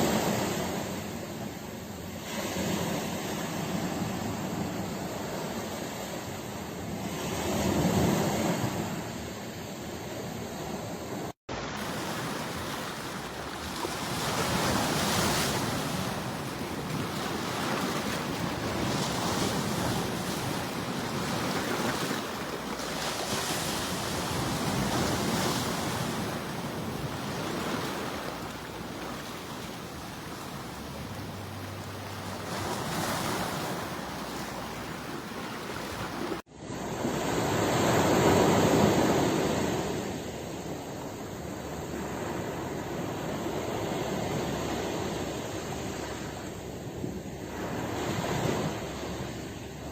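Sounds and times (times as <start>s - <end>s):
ocean waves breaking on shore: 0.0s - 49.9s.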